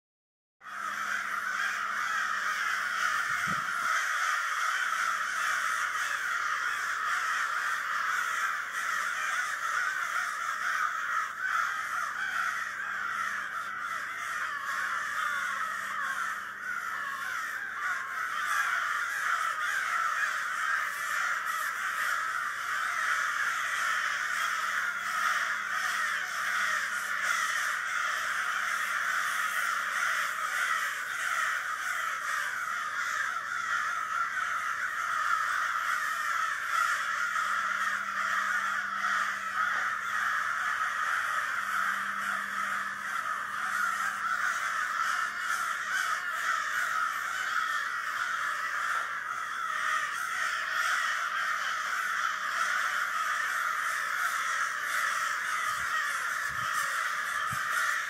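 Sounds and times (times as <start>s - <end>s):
crows cawing: 0.6s - 58.0s.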